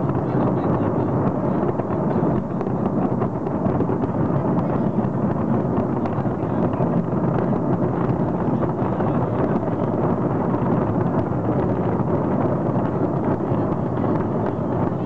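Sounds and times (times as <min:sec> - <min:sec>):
fireworks booming: 0:00.0 - 0:15.0
fireworks crackling: 0:00.0 - 0:15.0.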